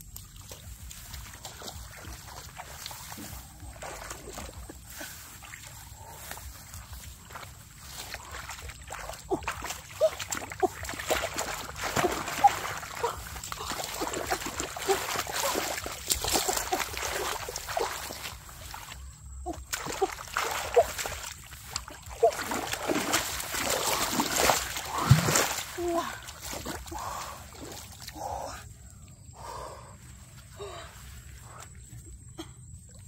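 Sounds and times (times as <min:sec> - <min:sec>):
hands splashing in muddy water: 0:00.0 - 0:28.2.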